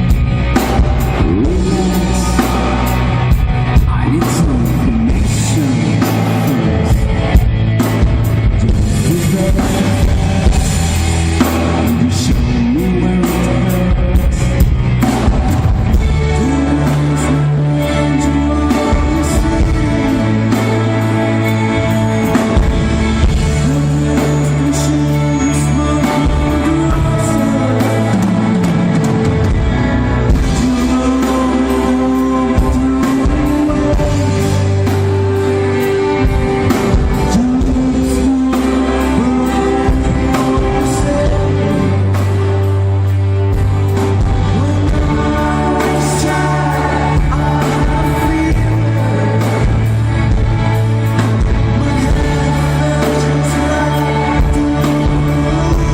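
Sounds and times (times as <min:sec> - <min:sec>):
bass guitar: 0:00.0 - 0:55.9
drum kit: 0:00.0 - 0:55.9
electric guitar: 0:00.0 - 0:55.9.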